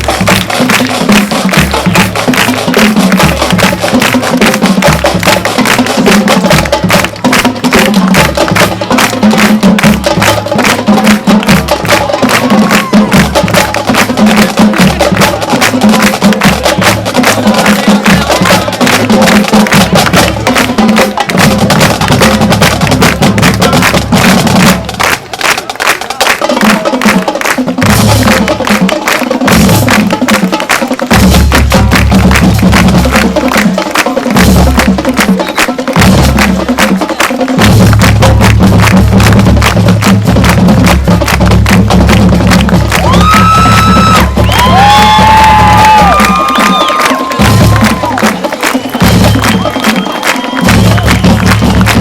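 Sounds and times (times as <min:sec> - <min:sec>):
drumline beating rapid percussion: 0:00.0 - 0:52.0
marching band playing: 0:00.0 - 0:52.0.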